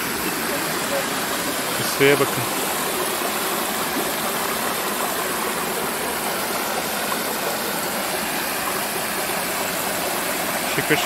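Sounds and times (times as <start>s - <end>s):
shallow stream flowing: 0.0s - 11.0s.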